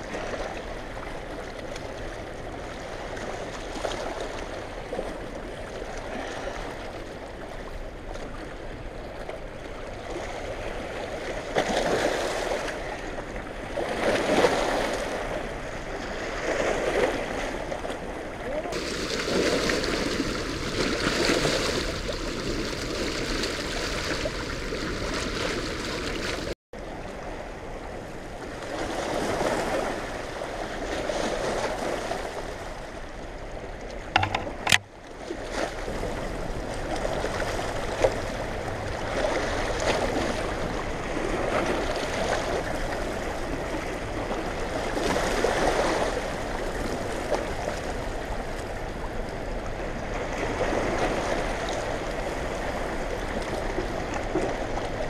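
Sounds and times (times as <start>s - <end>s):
rushing churning water: 0.0s - 55.0s.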